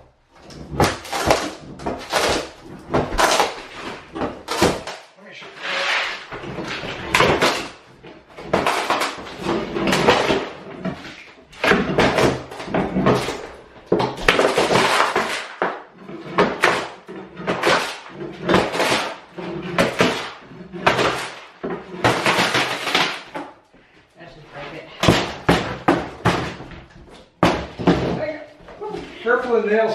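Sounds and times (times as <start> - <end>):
flooring ripping and scraping: 0.0 - 29.9.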